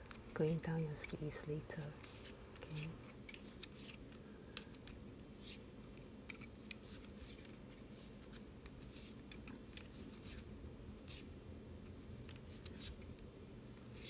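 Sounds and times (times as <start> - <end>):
yarn and hands rubbing: 0.0 - 4.2, 5.3 - 13.2, 13.8 - 14.0.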